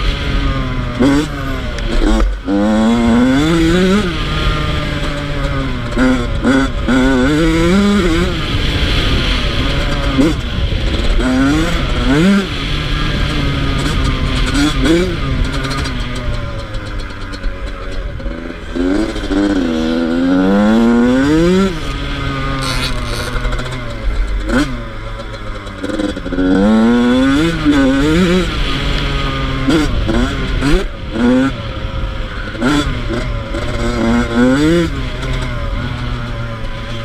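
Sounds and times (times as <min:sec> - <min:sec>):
two-stroke motorbike engine revving: 0:00.0 - 0:37.0.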